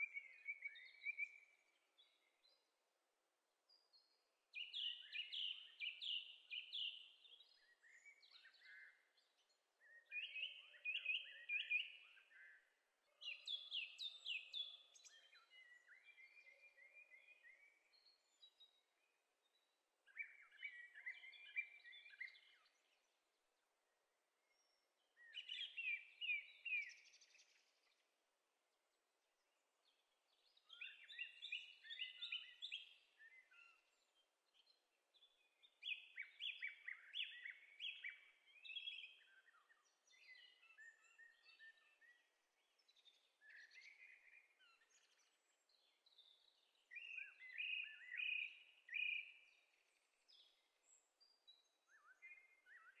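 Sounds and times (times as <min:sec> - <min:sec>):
faint birdsong: 0:00.0 - 0:53.0.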